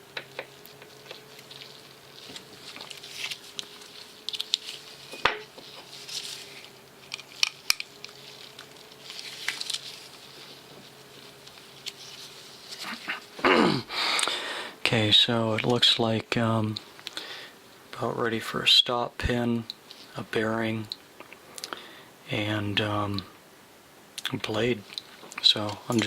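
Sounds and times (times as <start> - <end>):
soft scraping and rustling: 0.0 - 13.4, 14.8 - 23.3, 24.3 - 26.0.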